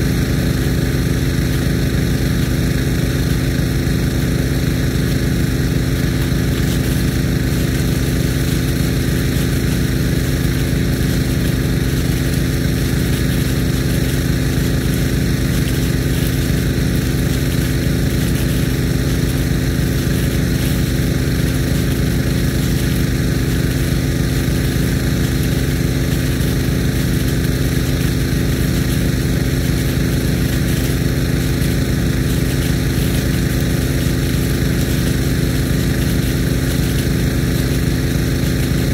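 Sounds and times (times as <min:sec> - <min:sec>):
irrigation pump engine droning: 0:00.0 - 0:38.9
water spraying from sprinkler: 0:00.0 - 0:38.9.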